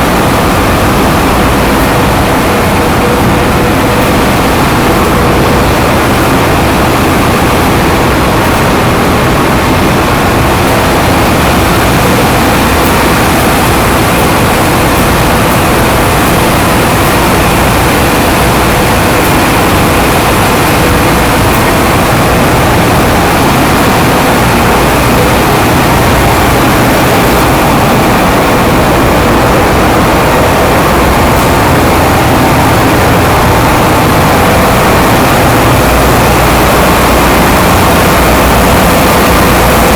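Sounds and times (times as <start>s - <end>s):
engine room machinery din: 0.0s - 39.9s
steady hum: 0.0s - 39.9s.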